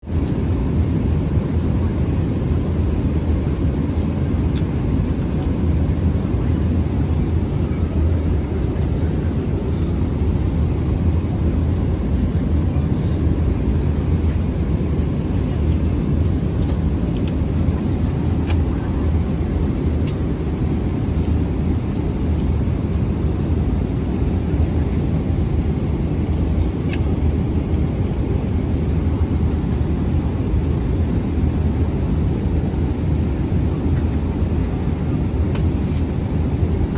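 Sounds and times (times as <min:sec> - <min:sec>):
airliner cabin rumble: 0:00.0 - 0:36.9.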